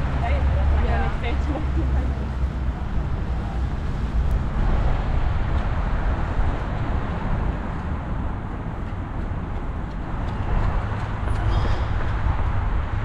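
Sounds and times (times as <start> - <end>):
traffic rumble: 0.0 - 13.0
wind: 0.0 - 13.0.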